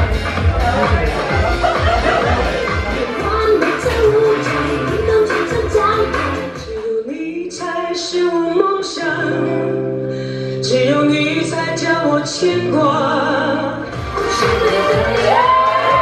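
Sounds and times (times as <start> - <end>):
pop backing music: 0.0 - 16.0.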